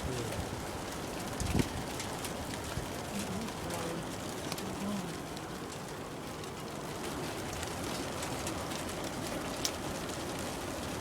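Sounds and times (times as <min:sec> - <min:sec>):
faint raindrop ticks: 0:00.0 - 0:11.0
steady rain: 0:00.0 - 0:11.0
wind: 0:00.0 - 0:11.0.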